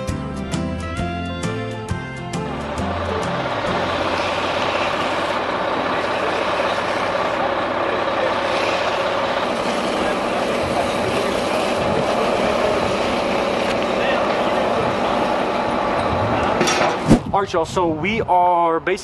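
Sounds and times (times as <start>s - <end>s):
dense mechanical noise: 0.0s - 19.0s
heavy truck engine droning: 0.0s - 19.0s.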